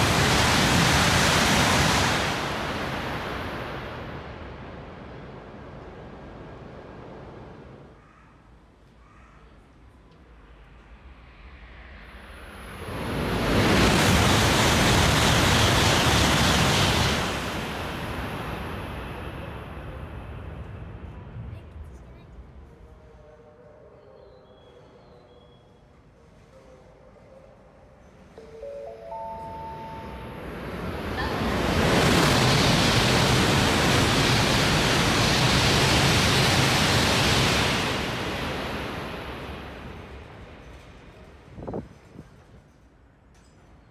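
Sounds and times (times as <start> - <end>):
high-speed train passing: 0.0 - 8.0, 10.2 - 43.2.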